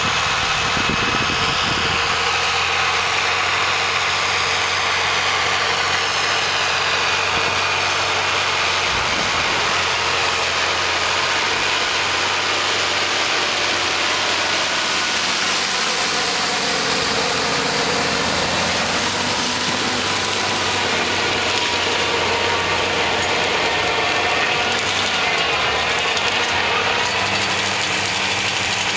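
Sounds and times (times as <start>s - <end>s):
milling machine cutting: 5.1s - 28.9s.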